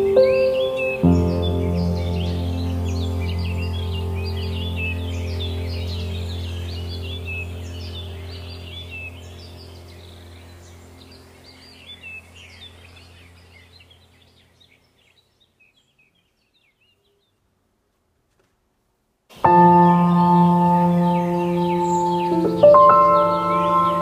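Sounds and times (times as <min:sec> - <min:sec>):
low steady drone: 0:00.0 - 0:15.0, 0:19.5 - 0:24.0
birds chirping: 0:00.0 - 0:17.9, 0:19.3 - 0:24.0.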